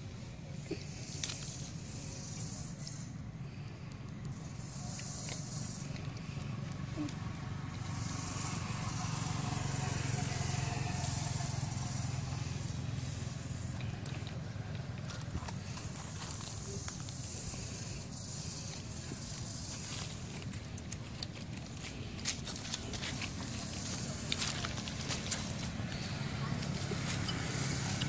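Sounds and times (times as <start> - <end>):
passing vehicle engine rumble: 4.3 - 28.0.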